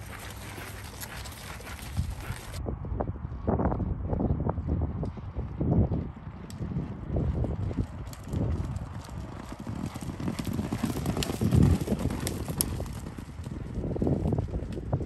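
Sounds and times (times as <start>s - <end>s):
horses galloping hoofbeats: 0.0s - 2.6s, 5.0s - 15.0s.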